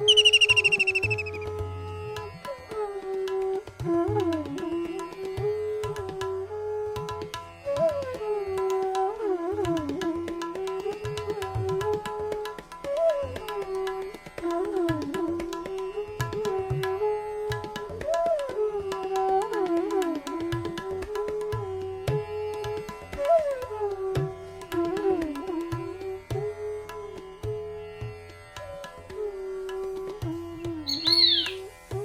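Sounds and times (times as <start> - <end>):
bamboo flute melody: 0.0 - 22.2, 23.1 - 27.0, 28.9 - 32.0
tabla strokes: 0.0 - 32.0.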